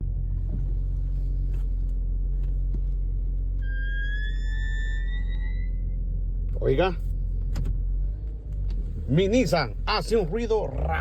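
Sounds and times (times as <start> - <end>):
car engine rumble: 0.0 - 11.0
brakes squealing: 0.1 - 11.0.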